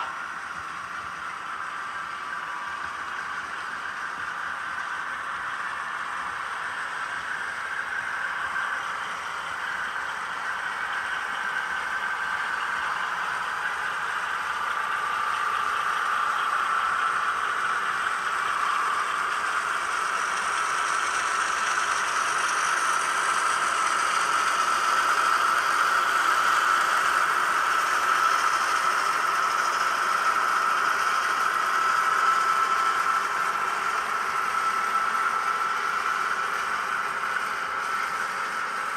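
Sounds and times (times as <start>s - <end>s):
model train motor whir: 0.0s - 38.9s
wheels rattling on track: 0.0s - 38.9s.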